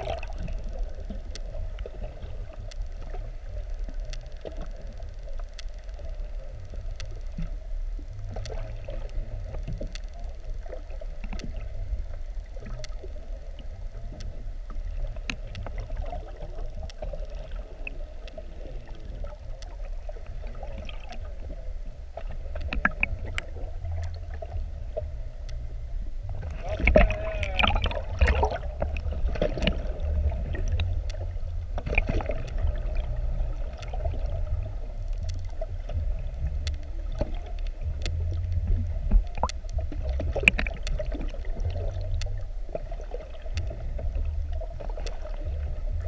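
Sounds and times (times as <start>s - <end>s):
faint hum: 0.0s - 46.0s
underwater low rumble: 0.0s - 46.0s
light clicks: 0.1s - 45.8s.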